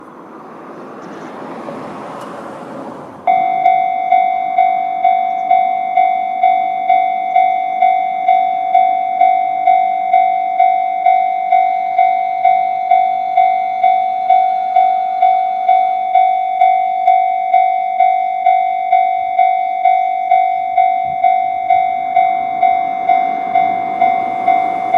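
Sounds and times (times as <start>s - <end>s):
level crossing warning bell: 3.2s - 24.9s.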